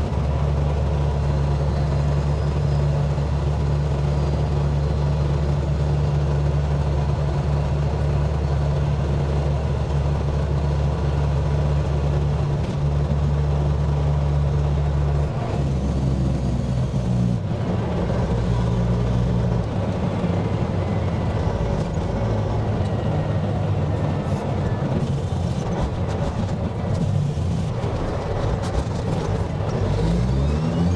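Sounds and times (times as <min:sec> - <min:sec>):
diesel engine drone in cab: 0:00.0 - 0:30.9.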